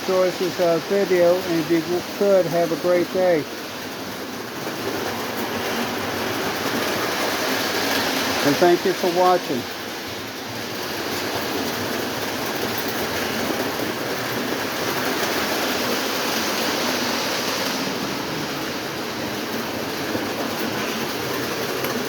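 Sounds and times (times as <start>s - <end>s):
model trains rumbling on track: 0.0s - 22.0s.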